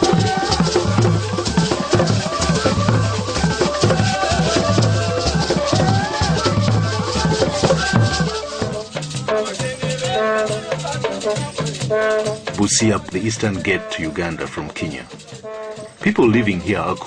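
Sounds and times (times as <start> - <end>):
people singing: 0.0 - 15.4
drums and shakers: 0.0 - 17.0.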